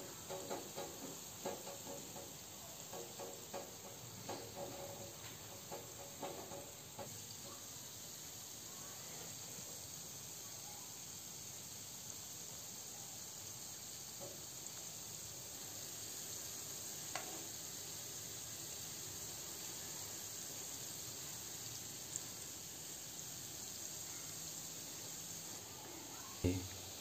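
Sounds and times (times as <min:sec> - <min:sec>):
oil sizzling in a pan: 0:00.0 - 0:27.0.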